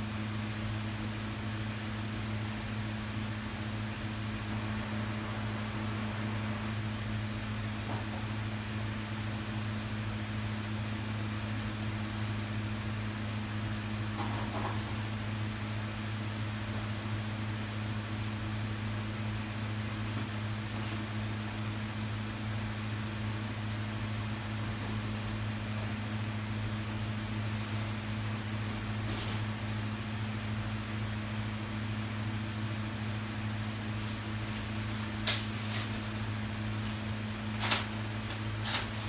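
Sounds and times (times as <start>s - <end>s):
appliance fan and motor hum: 0.0s - 39.0s
low electrical drone: 0.0s - 39.0s.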